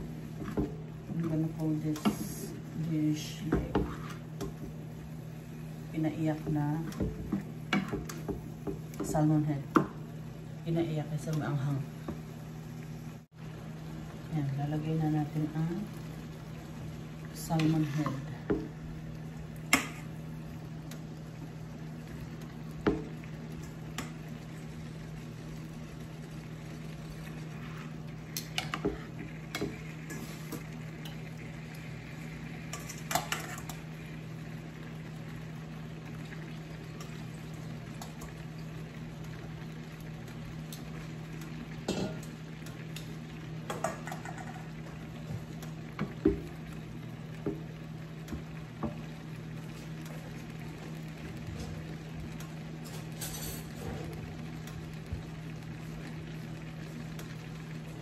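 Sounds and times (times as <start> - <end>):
sauce simmering in a frying pan: 0.0 - 58.0.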